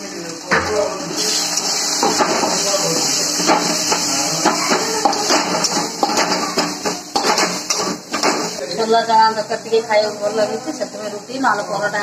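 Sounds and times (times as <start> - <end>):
onion frying in oil: 0.0 - 12.0.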